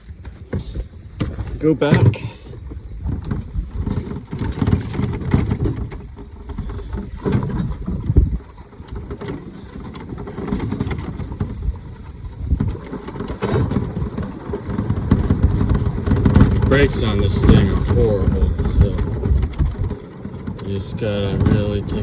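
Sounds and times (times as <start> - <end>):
rattles and knocks: 0.0 - 22.0
utility vehicle driving over rough ground: 0.0 - 22.0.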